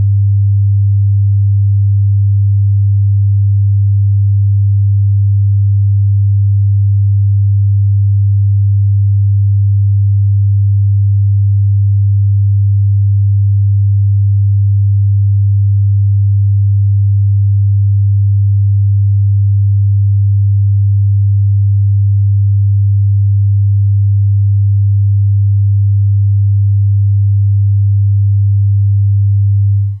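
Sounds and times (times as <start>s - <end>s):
low sine tone: 0.0s - 30.0s.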